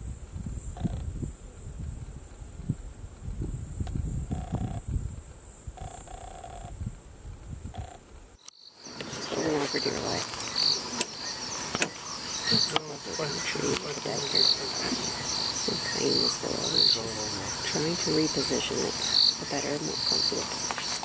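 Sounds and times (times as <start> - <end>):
insects trilling: 0.6 - 1.4, 3.6 - 6.9, 7.6 - 21.0
high insect chirp: 3.3 - 6.9, 7.5 - 21.0.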